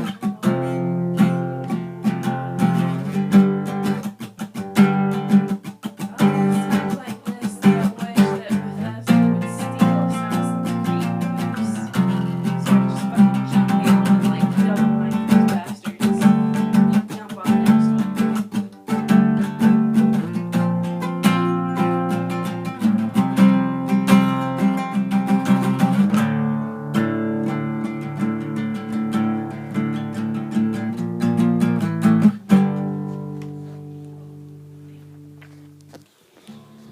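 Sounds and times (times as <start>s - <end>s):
acoustic guitar chords: 0.0s - 36.9s.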